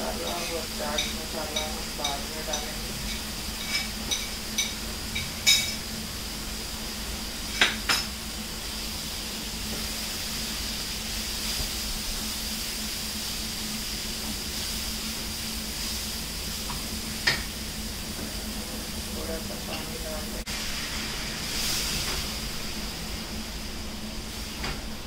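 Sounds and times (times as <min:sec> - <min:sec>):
low steady hum: 0:00.0 - 0:25.0
masala sizzling in pan: 0:00.0 - 0:25.0.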